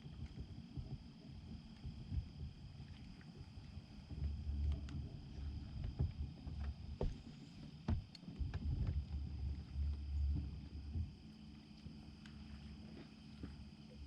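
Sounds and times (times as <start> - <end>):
water and wind against hull: 0.0 - 14.0.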